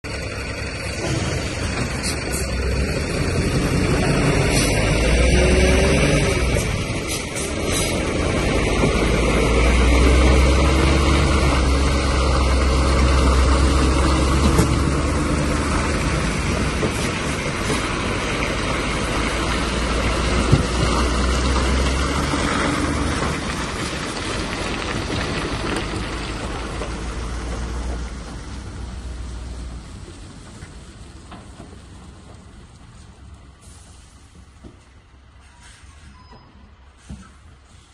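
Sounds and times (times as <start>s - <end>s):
truck engine drone: 0.0s - 37.9s.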